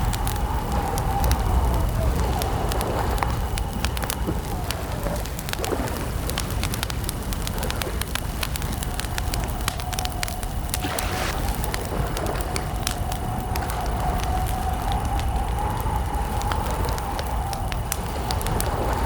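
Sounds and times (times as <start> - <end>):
campfire crackling and popping: 0.0 - 19.0
low rumble: 0.0 - 19.0.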